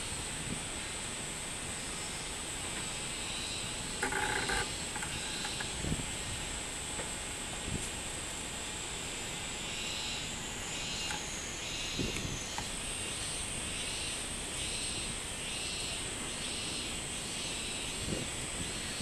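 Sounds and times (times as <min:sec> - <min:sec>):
cicada calling: 0:00.0 - 0:19.0.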